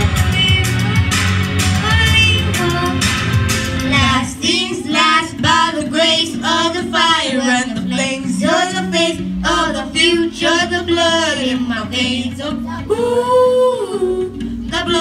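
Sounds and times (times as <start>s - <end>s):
boys singing into microphones: 0.0s - 3.2s, 3.8s - 15.0s
backing music: 0.0s - 15.0s.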